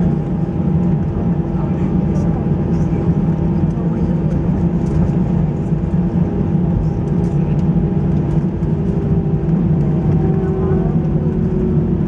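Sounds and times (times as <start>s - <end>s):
jet engine cabin hum: 0.0s - 12.0s.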